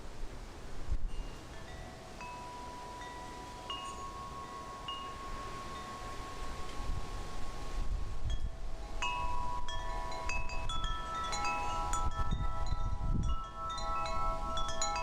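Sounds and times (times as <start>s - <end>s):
wind rumble on microphone: 0.0s - 1.4s, 3.6s - 15.0s
wind chimes ringing: 1.1s - 15.0s.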